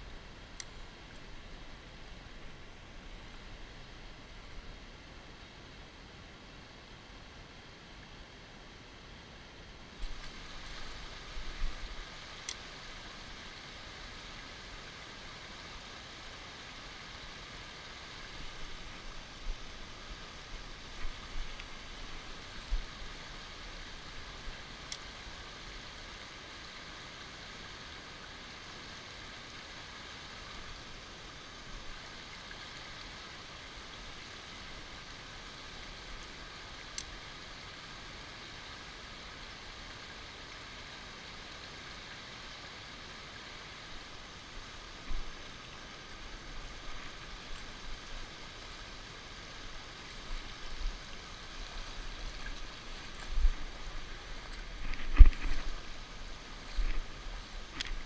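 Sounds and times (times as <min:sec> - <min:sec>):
stream rushing over rocks: 0:09.9 - 0:58.0.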